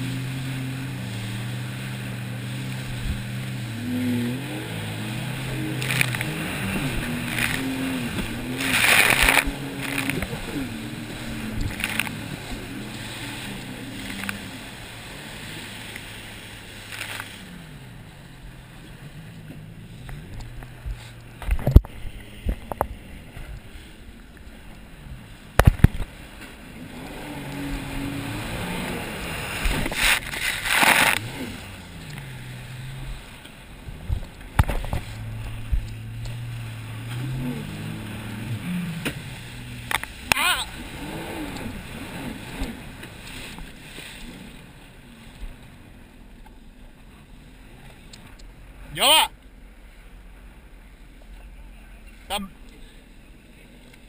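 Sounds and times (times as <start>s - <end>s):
personal watercraft engine running: 0.0s - 54.0s.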